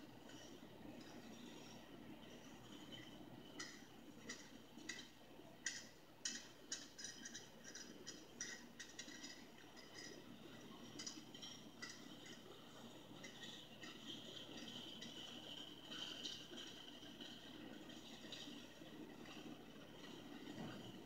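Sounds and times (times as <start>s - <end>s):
metallic clicks and rattles: 0.2s - 21.0s.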